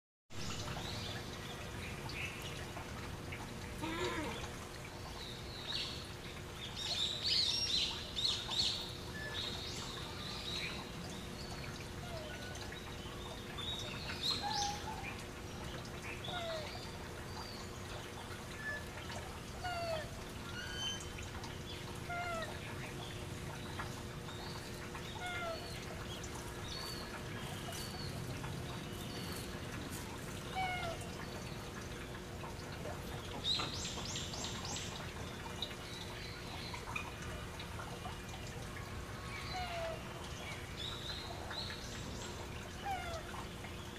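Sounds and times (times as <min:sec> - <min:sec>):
faint steady hum: 0:00.4 - 0:43.9.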